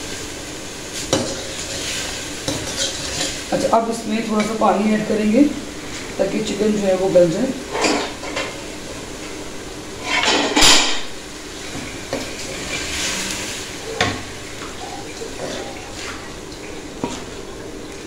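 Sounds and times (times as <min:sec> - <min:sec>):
low sizzle: 0:00.0 - 0:18.0
water hissing in hot pan: 0:00.0 - 0:18.0.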